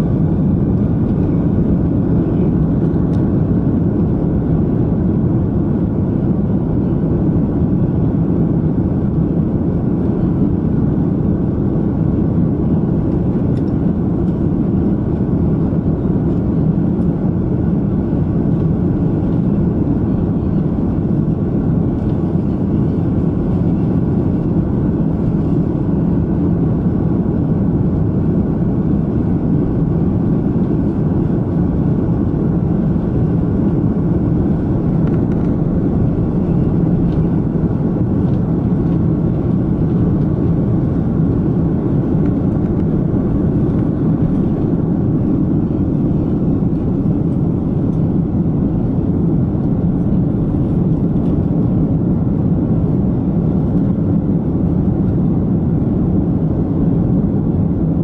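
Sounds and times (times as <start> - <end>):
jet engines roaring in cabin: 0.0 - 58.0.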